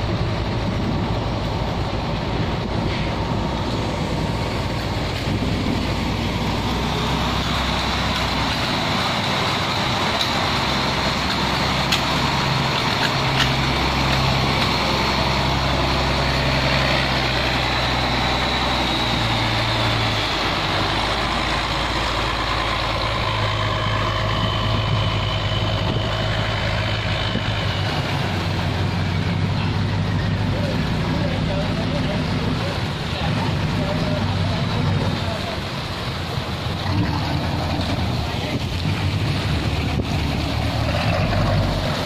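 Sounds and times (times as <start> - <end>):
boat engine running: 0.0 - 42.0
propeller churning water: 0.0 - 42.0.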